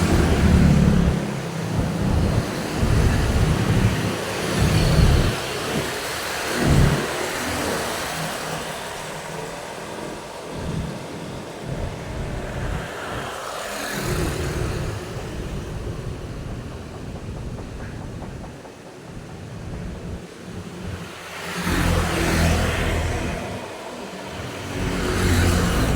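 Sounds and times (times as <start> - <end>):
vehicles passing: 0.0 - 25.9.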